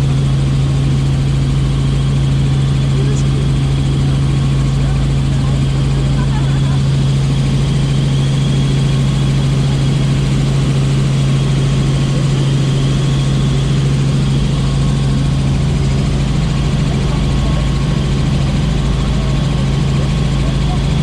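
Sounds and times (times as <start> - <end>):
helicopter engine and rotor drone: 0.0 - 21.0.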